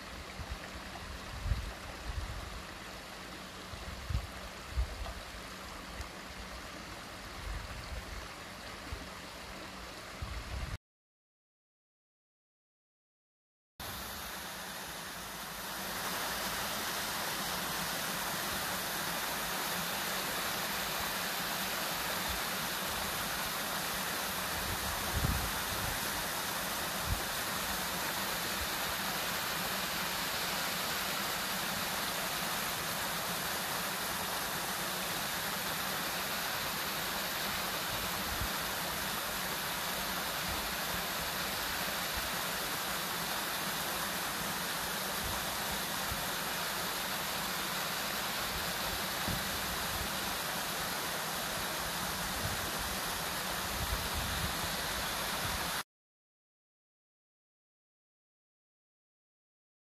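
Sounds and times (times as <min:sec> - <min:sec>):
rocky mountain stream rushing: 0:00.0 - 0:10.7, 0:13.8 - 0:55.8.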